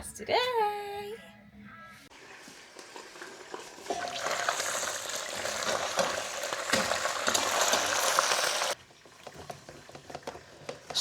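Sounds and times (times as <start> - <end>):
food sizzling in a pan: 2.1 - 11.0.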